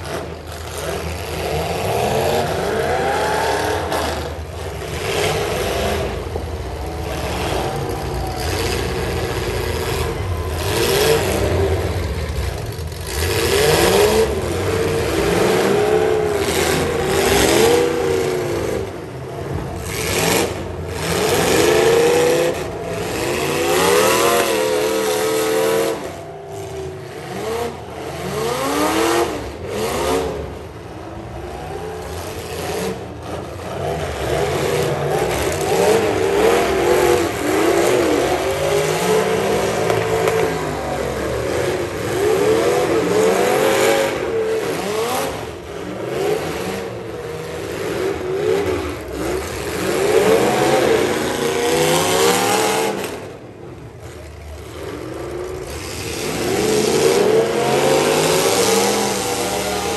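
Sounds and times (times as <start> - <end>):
truck engines revving hard: 0.0 - 59.9.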